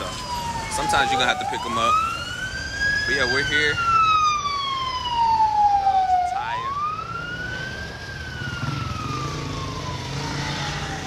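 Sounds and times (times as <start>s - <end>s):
siren wailing: 0.0s - 11.0s
street traffic rumble: 0.0s - 11.0s.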